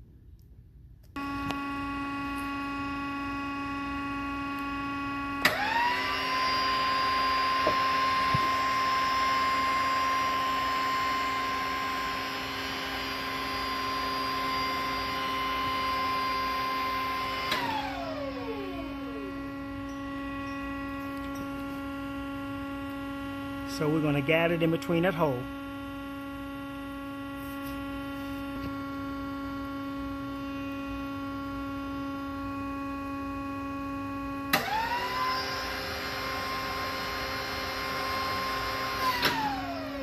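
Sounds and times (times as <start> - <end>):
electrical hum: 0.0 - 40.0
hydraulic pump motor whine: 1.1 - 40.0.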